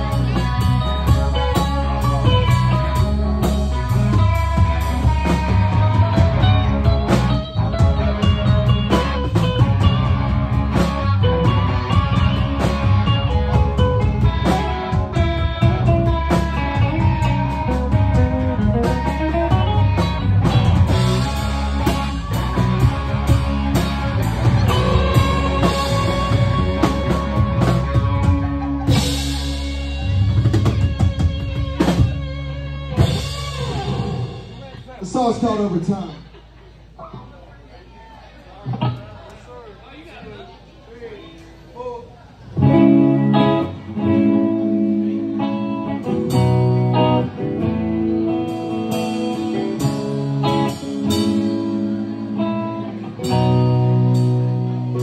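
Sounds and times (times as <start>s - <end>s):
blues-rock band playing: 0.0s - 36.6s, 42.4s - 55.0s.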